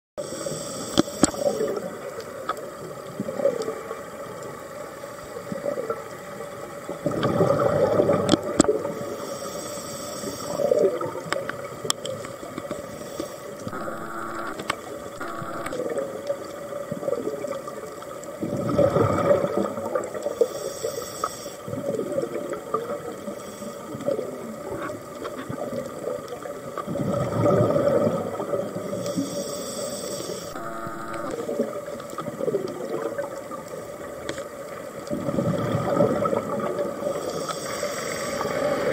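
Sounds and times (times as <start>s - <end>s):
underwater exhaled bubbles gurgling: 0.2s - 13.7s, 14.6s - 30.5s, 31.3s - 38.9s
steady underwater hiss: 0.2s - 38.9s.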